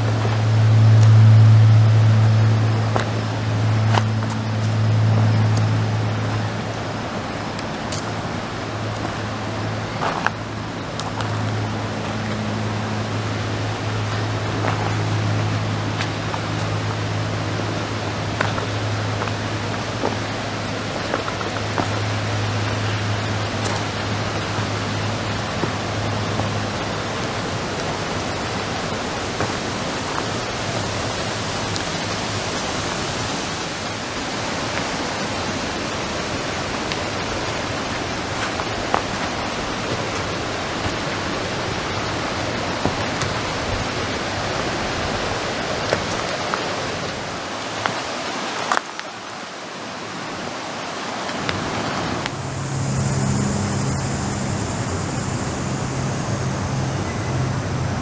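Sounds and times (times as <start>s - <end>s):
low hum with high whine: 0.0s - 58.0s
river rapids roaring: 0.0s - 58.0s.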